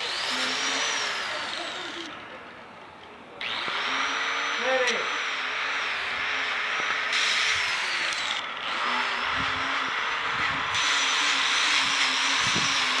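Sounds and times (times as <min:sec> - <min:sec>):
power tool grinding nails: 0:00.0 - 0:02.2, 0:03.4 - 0:13.0.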